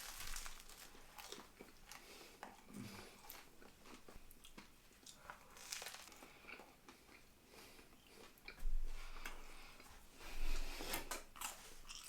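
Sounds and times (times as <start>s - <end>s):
faint crunching and chewing bread: 0.0s - 12.0s.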